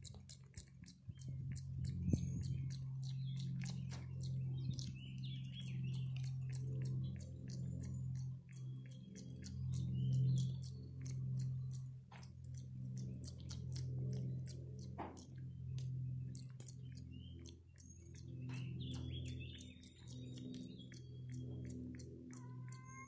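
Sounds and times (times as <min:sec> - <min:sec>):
monkey mouth clicks and smacks: 0:00.0 - 0:22.8
steady low hum: 0:00.0 - 0:23.0.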